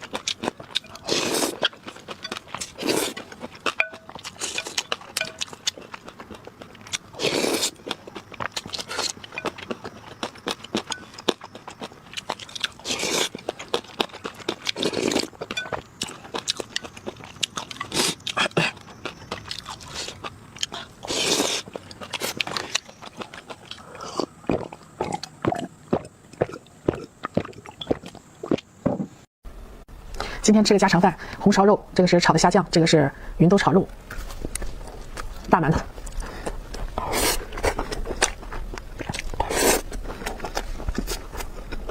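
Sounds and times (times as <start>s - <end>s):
crunching and chewing: 0.0s - 28.8s, 34.0s - 41.9s.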